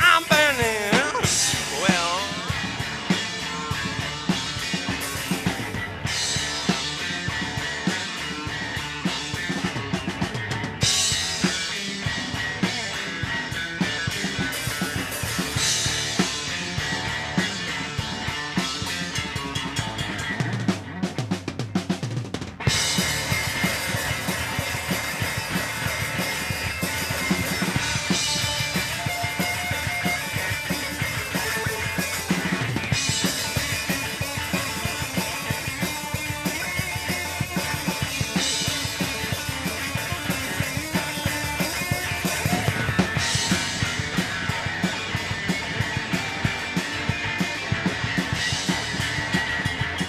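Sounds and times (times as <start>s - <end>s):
rock band playing: 0.0s - 50.0s.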